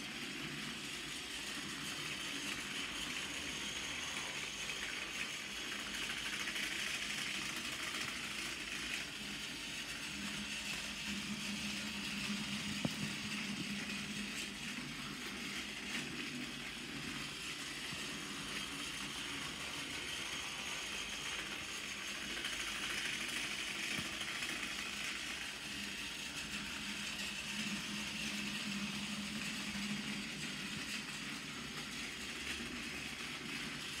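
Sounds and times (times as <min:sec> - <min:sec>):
toy train motor whirring: 0:00.0 - 0:34.0.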